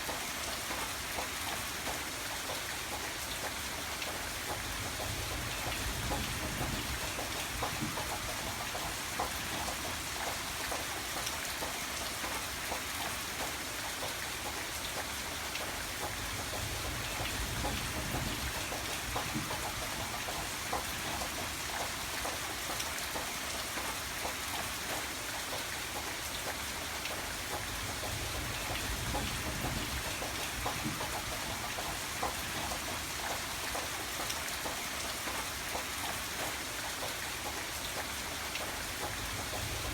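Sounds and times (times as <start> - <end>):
rain hiss: 0.0 - 39.9
raindrops pattering: 0.0 - 39.9.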